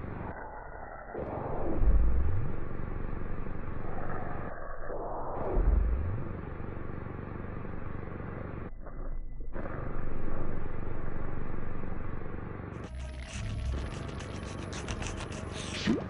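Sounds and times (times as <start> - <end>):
low noisy rumbling drone: 0.0 - 16.0.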